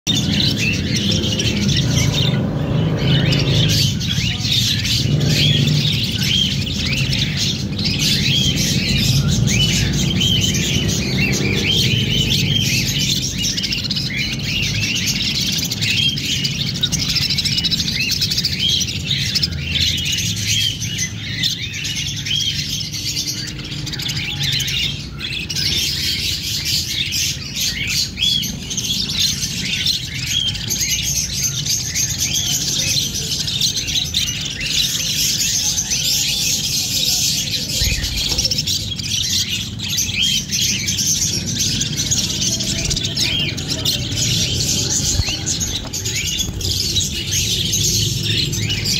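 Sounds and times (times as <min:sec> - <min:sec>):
budgerigars chirping: 0:00.1 - 0:48.9.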